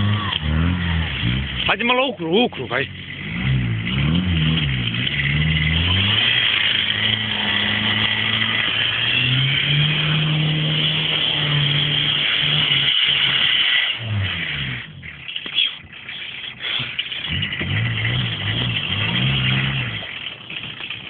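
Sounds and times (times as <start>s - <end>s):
diesel car engine revving: 0.0s - 21.0s.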